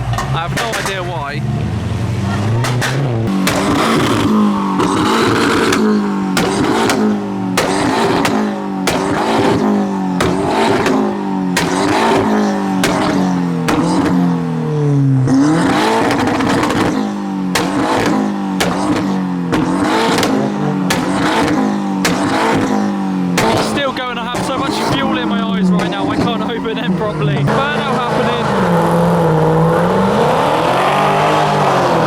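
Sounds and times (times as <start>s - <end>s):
exhaust pops: 0.0s - 14.6s, 15.2s - 29.5s
car engine hitting rev limiter: 0.0s - 32.0s.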